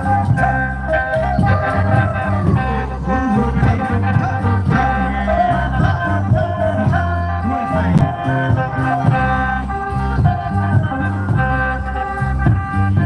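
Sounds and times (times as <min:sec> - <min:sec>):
oil barrel drums beating: 0:00.0 - 0:13.0
organ-like melody: 0:00.0 - 0:13.0.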